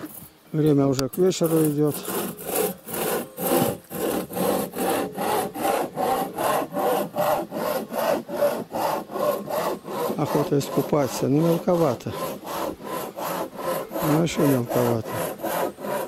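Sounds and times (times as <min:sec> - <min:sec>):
hand saw cutting wood: 0:00.0 - 0:16.0.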